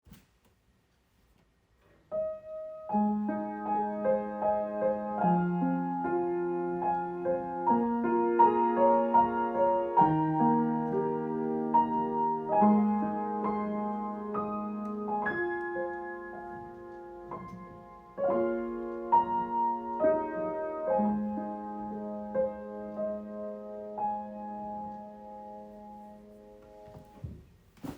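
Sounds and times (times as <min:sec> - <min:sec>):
slow solo piano piece: 0:02.1 - 0:27.9.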